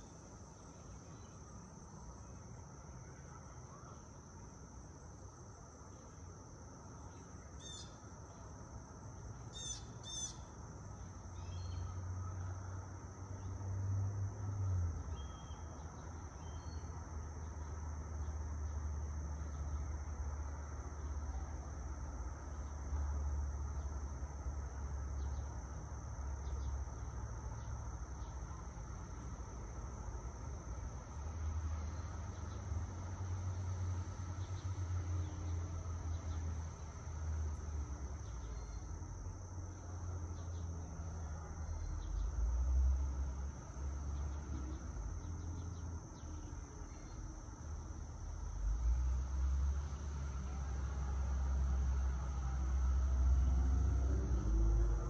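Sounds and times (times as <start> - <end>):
high-pitched insect chorus: 0.0 - 55.0
light traffic: 0.0 - 55.0.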